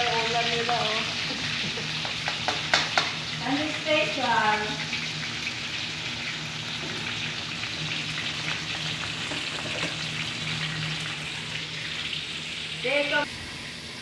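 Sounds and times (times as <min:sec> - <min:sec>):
fish sizzling in hot oil: 0:00.0 - 0:13.3.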